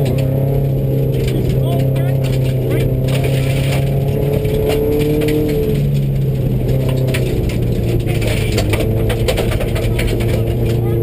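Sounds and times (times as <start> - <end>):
gravel and fittings rattling: 0.0 - 11.0
rally car engine running hard: 0.0 - 11.0.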